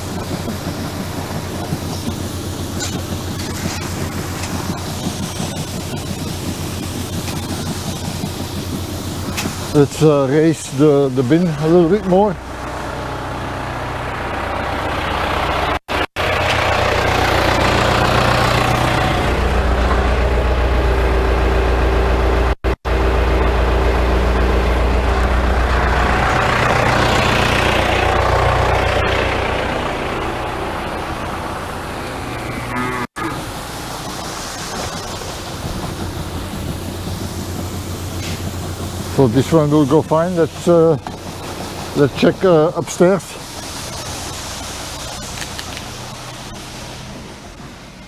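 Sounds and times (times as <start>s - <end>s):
grain auger turning: 0.0s - 46.6s
engine droning: 0.0s - 48.0s.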